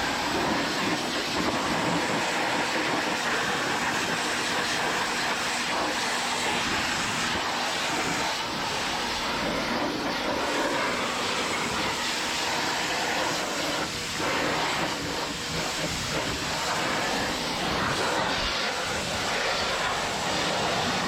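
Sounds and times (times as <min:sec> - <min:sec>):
water spraying onto car: 0:00.0 - 0:21.0.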